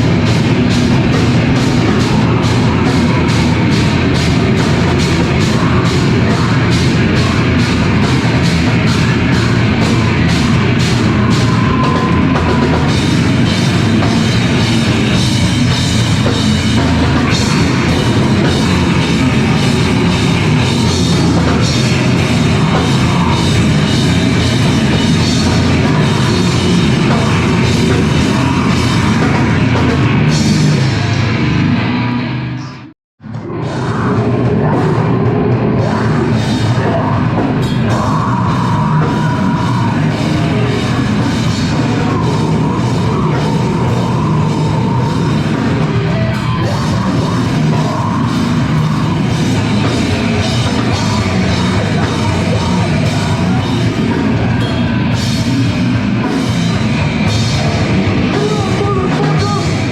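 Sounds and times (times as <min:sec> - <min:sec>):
rock band playing: 0:00.0 - 0:32.6, 0:33.2 - 0:59.9.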